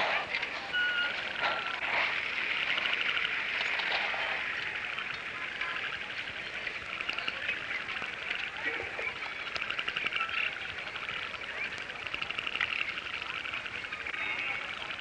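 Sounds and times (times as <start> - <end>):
rapid pulsing animal trill: 1.0 - 15.0.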